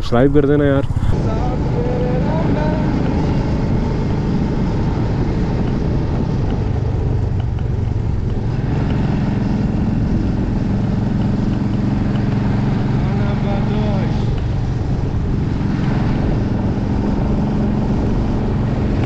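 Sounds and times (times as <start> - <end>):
wind rush and road noise: 0.0 - 19.0
motorcycle engine running: 0.8 - 19.0.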